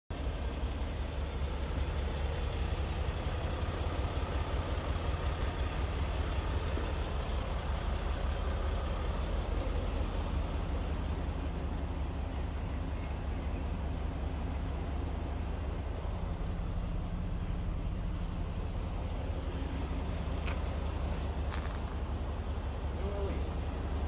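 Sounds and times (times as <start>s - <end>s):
diesel engine idling: 0.1s - 24.0s.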